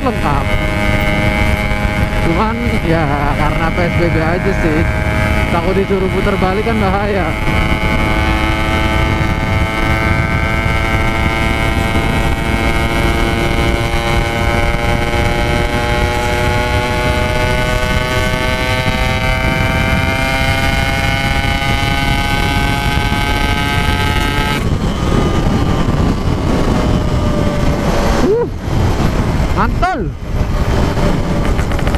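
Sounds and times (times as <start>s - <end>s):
motorcycle engine pulling: 0.0s - 31.9s
wind and road rumble: 0.0s - 31.9s.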